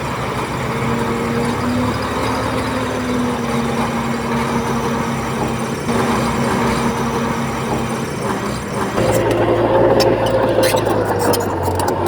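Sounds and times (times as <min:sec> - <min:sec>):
heavy diesel engine running: 0:00.0 - 0:12.0
rough noisy clatter: 0:00.0 - 0:12.0.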